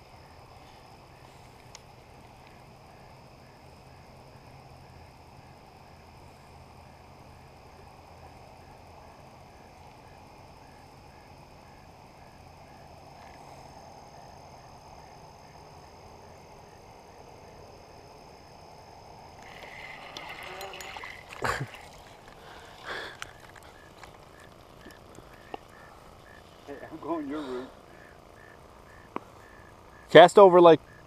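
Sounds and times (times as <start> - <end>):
high-pitched insect trill: 0.0 - 31.0
low distant hum: 0.0 - 31.0.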